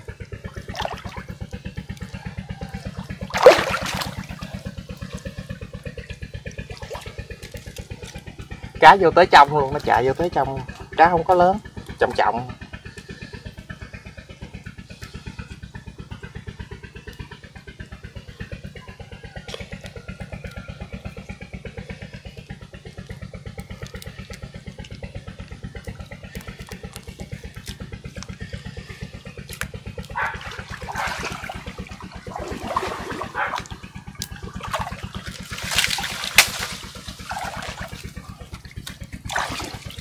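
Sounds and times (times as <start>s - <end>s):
small engine chugging: 0.0s - 40.0s
water splashing and sloshing: 0.0s - 40.0s.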